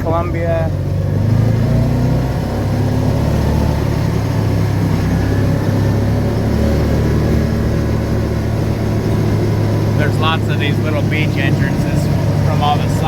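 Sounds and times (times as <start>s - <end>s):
road noise hiss: 0.0s - 13.0s
vehicle engine drone: 0.0s - 13.0s.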